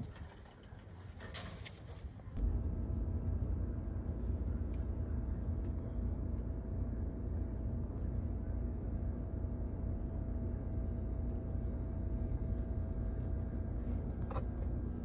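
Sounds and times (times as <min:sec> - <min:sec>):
low rumble: 0:02.4 - 0:15.0.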